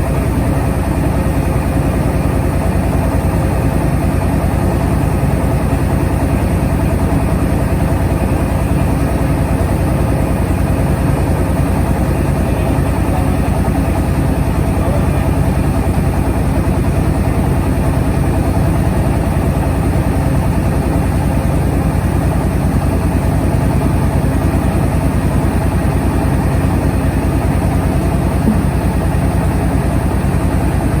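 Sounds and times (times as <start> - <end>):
engine running with fast pulse: 0.0 - 31.0.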